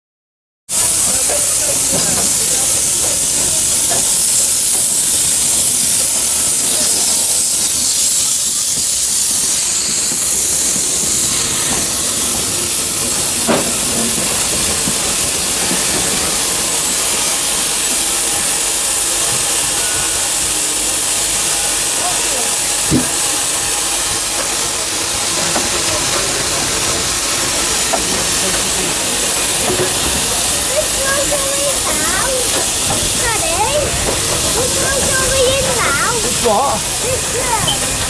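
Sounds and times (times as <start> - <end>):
steam hissing: 0.7 - 38.0.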